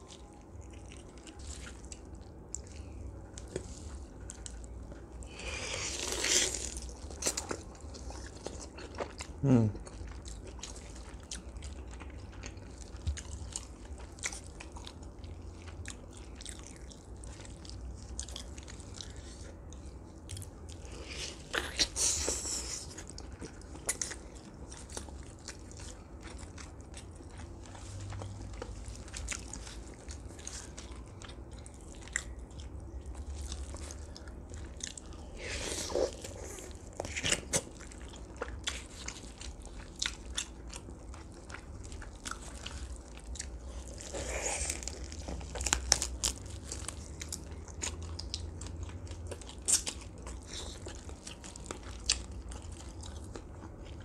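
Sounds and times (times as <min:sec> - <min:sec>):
crunching and chewing food: 0:00.0 - 0:54.0.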